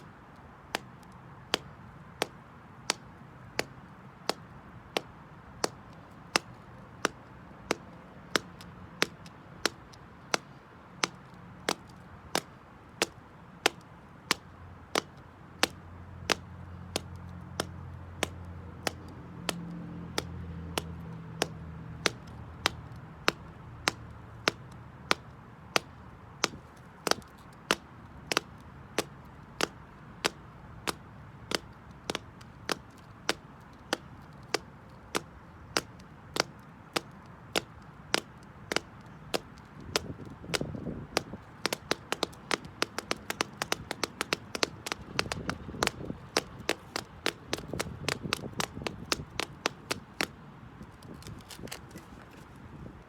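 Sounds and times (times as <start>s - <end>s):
high heels clicking on concrete: 0.8s - 52.6s.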